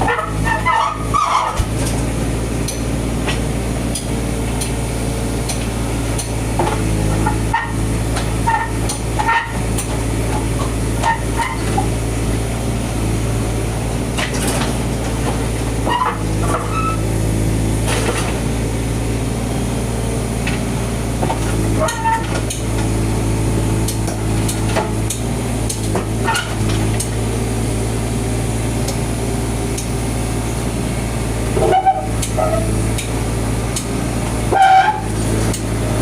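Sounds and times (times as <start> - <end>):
machine engine drone: 0.0 - 36.0.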